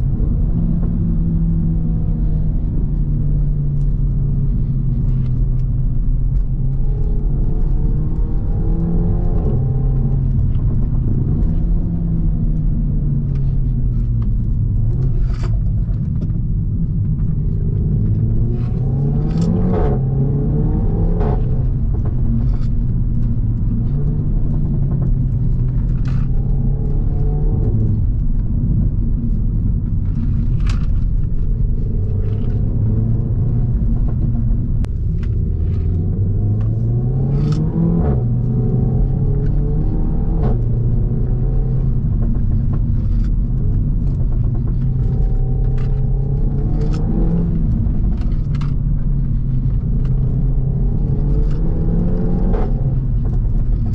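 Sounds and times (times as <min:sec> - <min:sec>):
car engine revving: 0:00.0 - 0:53.9
exhaust cracks: 0:00.0 - 0:53.9.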